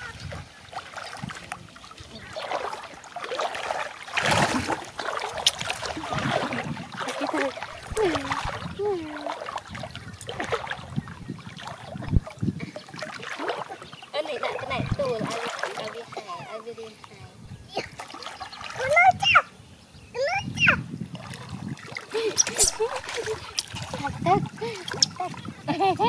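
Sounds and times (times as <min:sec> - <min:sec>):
water splashing and sloshing: 0:00.0 - 0:19.6, 0:20.2 - 0:26.0.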